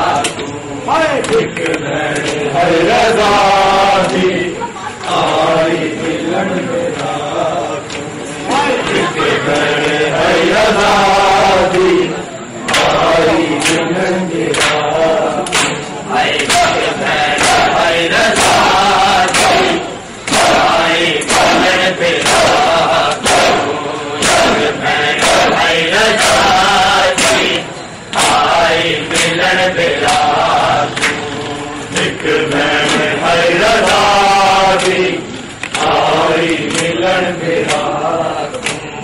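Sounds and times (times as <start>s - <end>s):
men chanting together: 0.0s - 39.0s.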